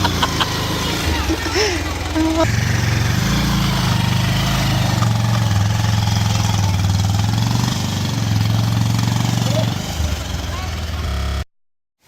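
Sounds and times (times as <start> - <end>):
vehicle engine droning: 0.0 - 11.5.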